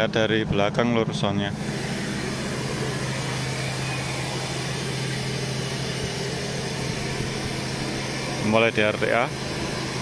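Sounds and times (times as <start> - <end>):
test noise hiss from speakers: 0.0 - 10.0
low hum: 1.5 - 10.0.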